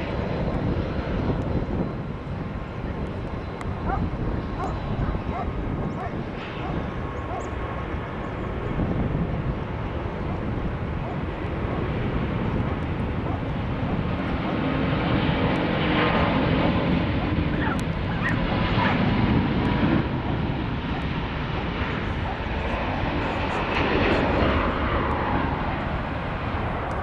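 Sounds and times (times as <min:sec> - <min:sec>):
jet airliner takeoff rumble: 0:00.0 - 0:27.0.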